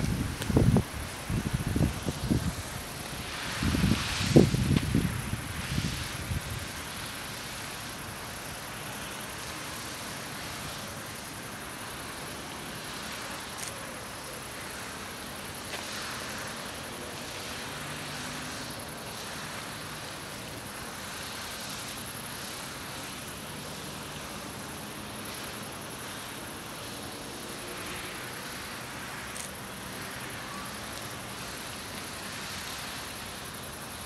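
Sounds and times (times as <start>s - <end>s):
outdoor ambient hiss: 0.0s - 34.0s.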